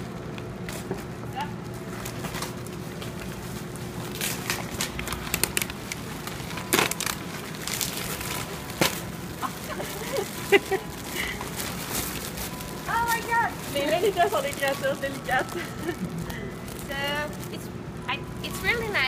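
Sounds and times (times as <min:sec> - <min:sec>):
paper and plastic rustling: 0:00.1 - 0:17.7.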